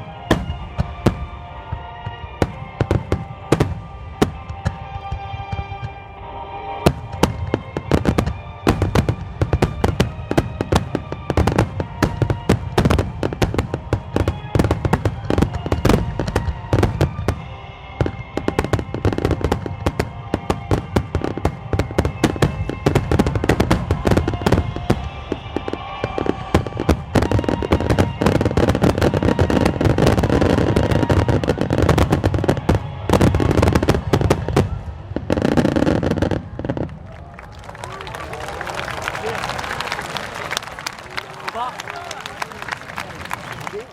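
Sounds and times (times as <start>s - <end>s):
fireworks bursting: 0.0s - 43.9s
music playing: 0.0s - 43.9s.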